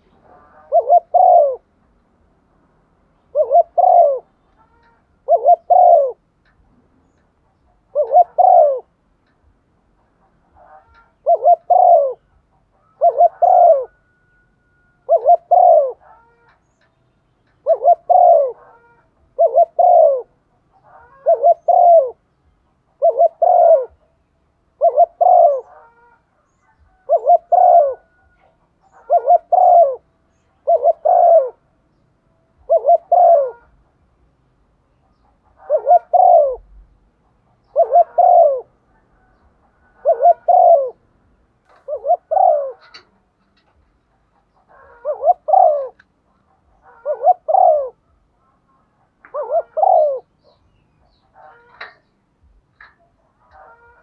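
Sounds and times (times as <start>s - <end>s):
dove cooing: 0.0s - 1.8s, 3.2s - 9.0s, 9.9s - 16.8s, 17.4s - 31.7s, 32.6s - 33.8s, 35.0s - 41.0s, 41.6s - 54.0s.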